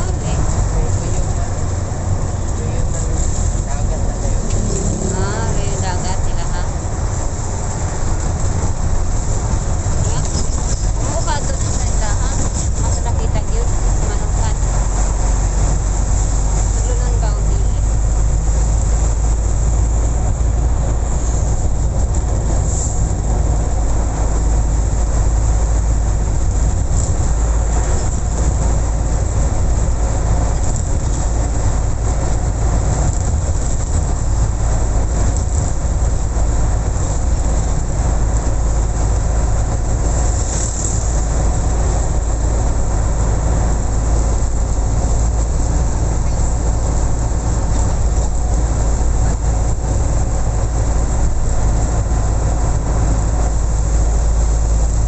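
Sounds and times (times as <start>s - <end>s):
vehicle low rumble: 0.0s - 55.0s.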